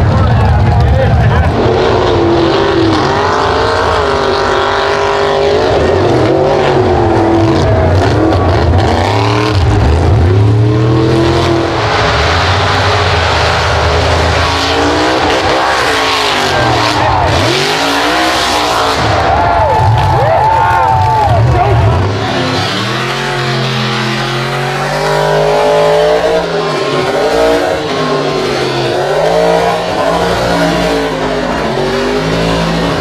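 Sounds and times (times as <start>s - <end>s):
truck engines revving: 0.0s - 33.0s.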